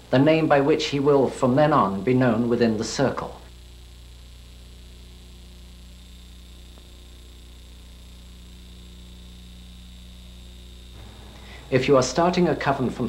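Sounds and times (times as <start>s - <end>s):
electrical mains hum: 0.0s - 13.0s
faint high whine: 0.0s - 13.0s.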